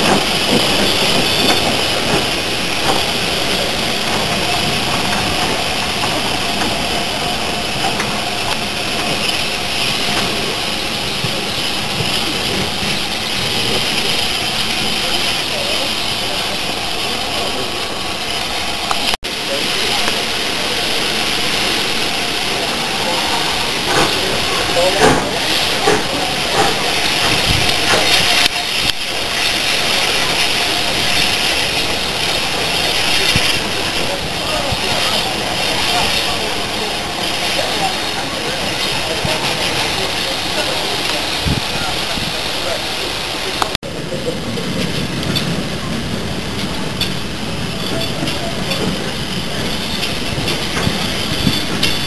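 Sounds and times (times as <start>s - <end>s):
steam locomotive rumble and hiss: 0.0s - 52.0s.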